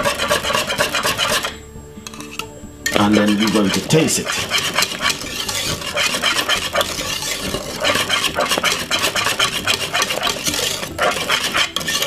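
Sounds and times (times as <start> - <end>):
wire whisk scraping metal pot: 0.0 - 12.0.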